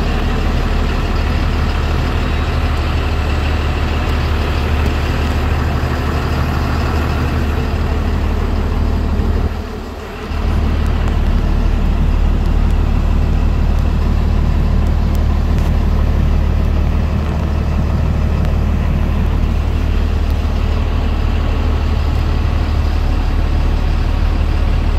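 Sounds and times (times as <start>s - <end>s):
diesel engine idling: 0.0s - 24.9s.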